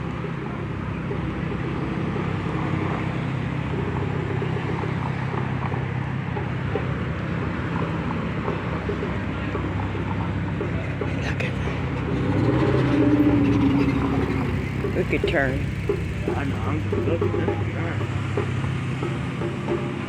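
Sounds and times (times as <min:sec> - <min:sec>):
car engine hum: 0:00.0 - 0:20.0
tyre and road noise: 0:00.0 - 0:20.0.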